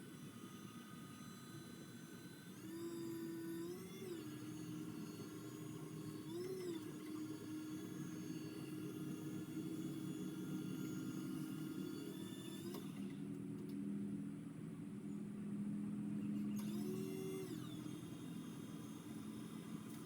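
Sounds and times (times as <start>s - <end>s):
motor humming and whining: 0.0s - 20.0s.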